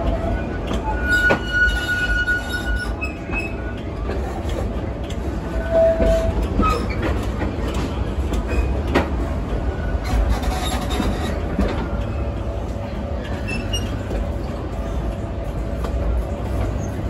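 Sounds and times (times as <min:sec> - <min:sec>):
train rumbling and rattling: 0:00.0 - 0:17.0.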